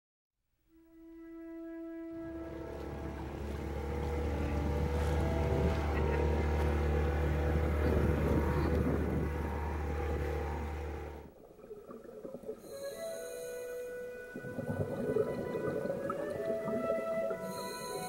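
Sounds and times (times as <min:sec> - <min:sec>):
sustained music notes: 0:00.7 - 0:11.3, 0:12.4 - 0:18.0
boat motor rumbling: 0:01.6 - 0:18.0
wind and water rushing: 0:02.2 - 0:13.1, 0:14.1 - 0:18.0.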